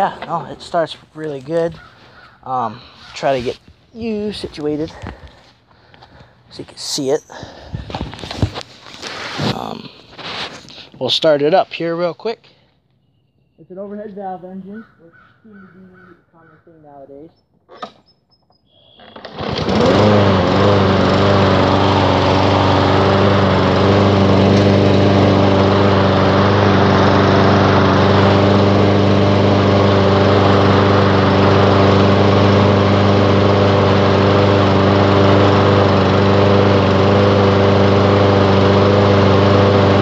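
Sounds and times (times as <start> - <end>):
lawn mower engine starting and running: 0.0 - 12.9, 18.9 - 40.0.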